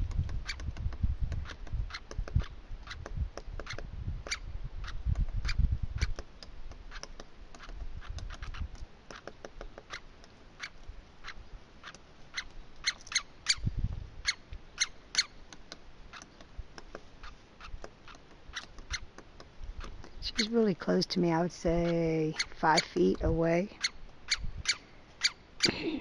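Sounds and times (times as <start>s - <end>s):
woodpecker pecking bark: 0.0s - 13.6s, 14.2s - 20.6s, 21.7s - 25.8s.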